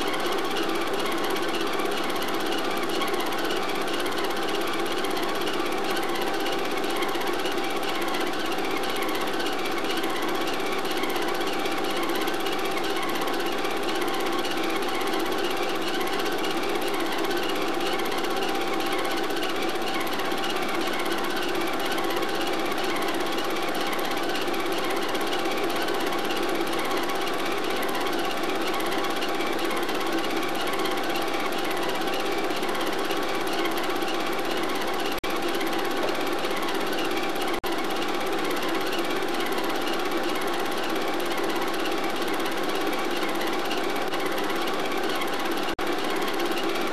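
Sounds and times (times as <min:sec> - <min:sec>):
film projector clattering: 0:00.0 - 0:46.9.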